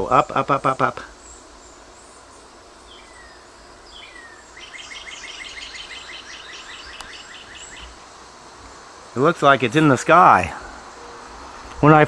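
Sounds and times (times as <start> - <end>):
bird chirping: 0.0 - 9.9
outdoor background noise: 0.0 - 12.0.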